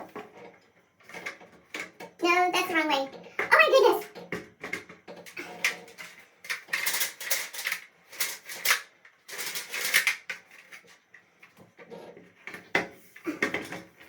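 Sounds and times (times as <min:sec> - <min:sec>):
plastic housing clattering and scraping: 0:00.0 - 0:02.2, 0:04.1 - 0:14.0.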